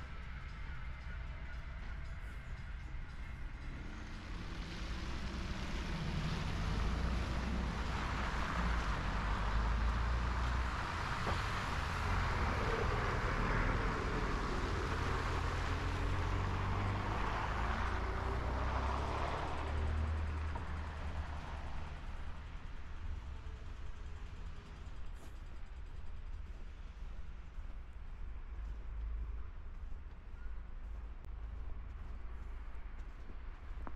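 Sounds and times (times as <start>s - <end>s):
passing vehicle engine rumble: 0.0s - 33.9s.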